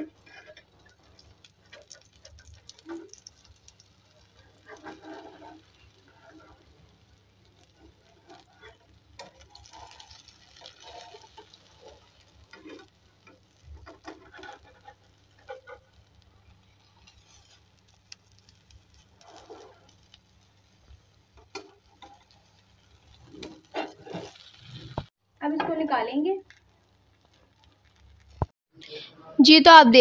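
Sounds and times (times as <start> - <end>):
metal spatula scraping a pan: 0.0 - 25.1
omelette sizzling in oil: 0.0 - 28.6.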